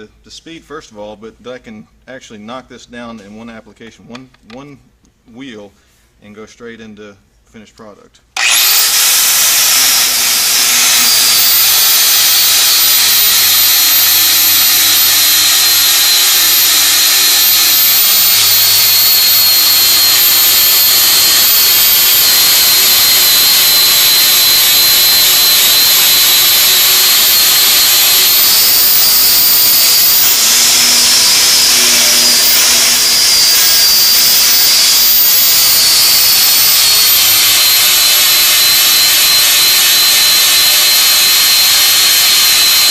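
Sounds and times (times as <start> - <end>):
angle grinder whining: 8.4 - 42.9.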